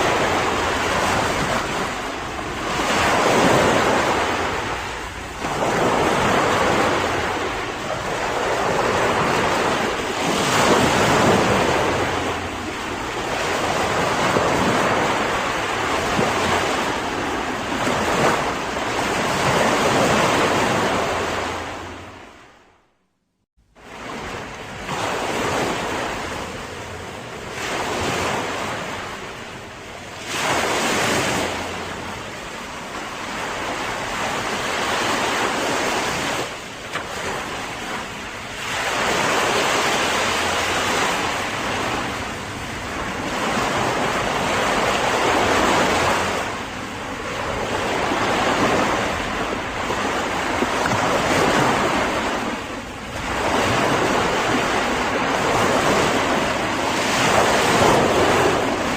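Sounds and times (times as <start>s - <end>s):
wind buffeting microphone: 0.0s - 22.4s, 23.8s - 58.9s
ocean waves breaking on shore: 0.0s - 22.9s, 23.6s - 58.9s.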